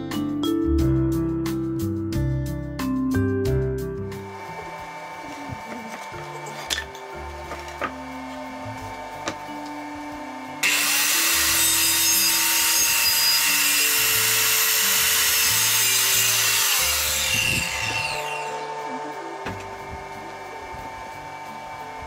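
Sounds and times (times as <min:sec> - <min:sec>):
background music: 0:00.0 - 0:22.0
circular saw cutting wood: 0:04.2 - 0:22.0.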